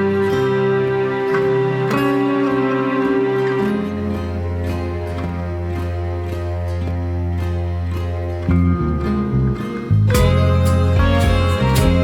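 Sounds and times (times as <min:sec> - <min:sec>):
plucked string instrumental music: 0:00.0 - 0:12.0.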